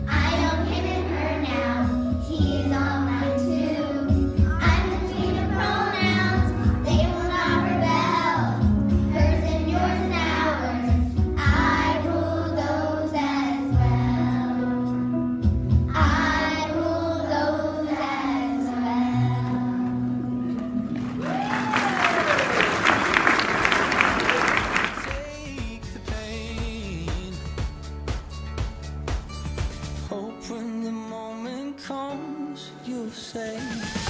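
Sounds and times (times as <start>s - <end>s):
musical accompaniment: 0.0s - 34.0s.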